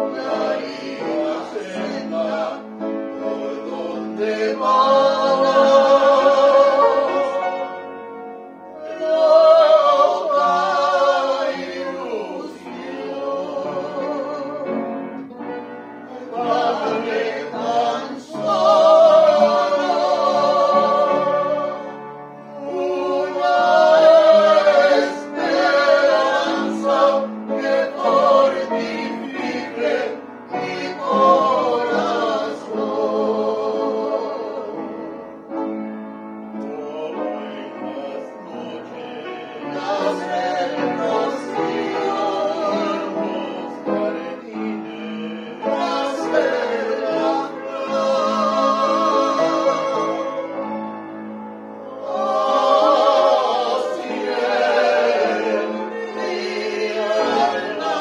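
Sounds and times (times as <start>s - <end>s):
group singing a slow ballad: 0.0s - 7.8s, 8.7s - 35.5s, 36.5s - 58.0s
upright piano: 0.0s - 58.0s.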